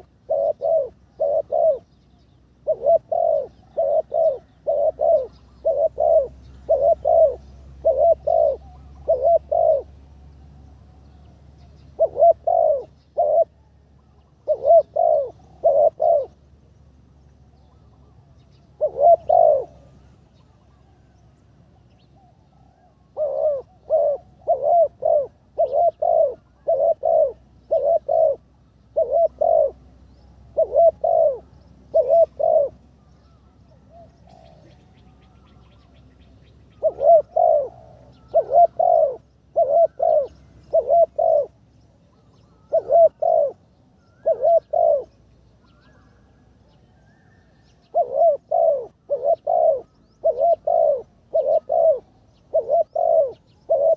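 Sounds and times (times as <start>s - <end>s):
dove cooing: 0.0s - 16.5s, 17.4s - 21.2s, 21.8s - 53.9s.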